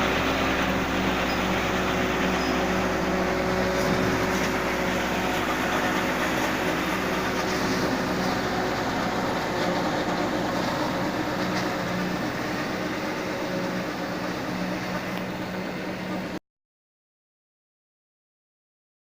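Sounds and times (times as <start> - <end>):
machinery drone: 0.0 - 16.4
tractor engine running: 0.0 - 16.4.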